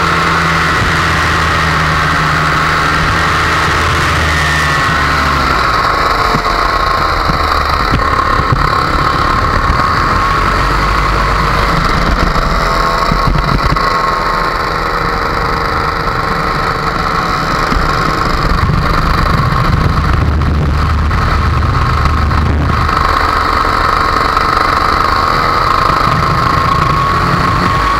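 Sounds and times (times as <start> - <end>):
paramotor engine and propeller: 0.0 - 27.9.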